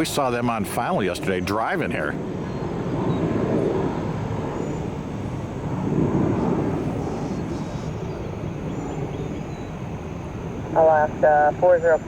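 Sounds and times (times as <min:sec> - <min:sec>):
jet airliner engines rumbling: 0:00.0 - 0:12.0.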